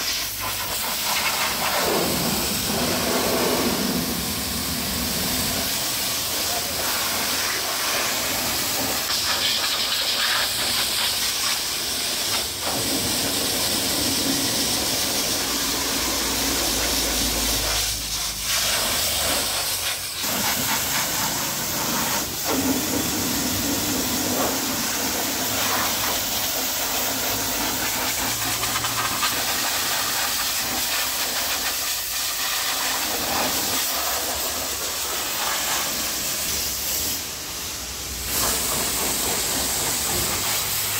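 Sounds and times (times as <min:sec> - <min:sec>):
pressure washer jet spraying: 0:00.0 - 0:40.9.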